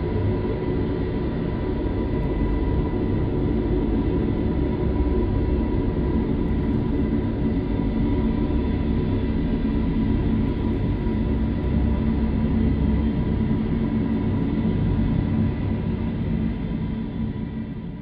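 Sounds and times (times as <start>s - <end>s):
faint steady hums: 0.0s - 18.0s
low rumbling drone: 0.0s - 18.0s.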